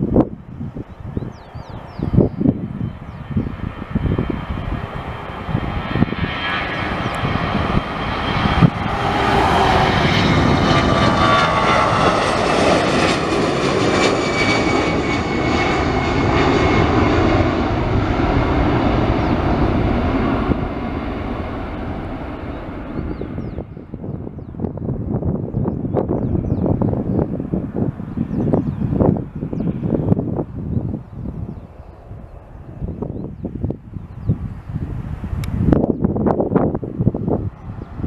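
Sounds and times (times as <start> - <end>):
jet airliner roar at takeoff: 0.0 - 38.0.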